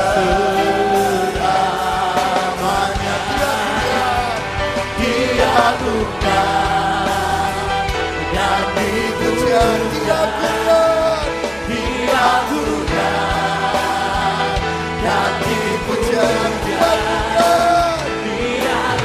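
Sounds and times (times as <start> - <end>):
man singing into a microphone: 0.0 - 13.5, 15.0 - 19.0
gospel band with drums: 0.0 - 19.0.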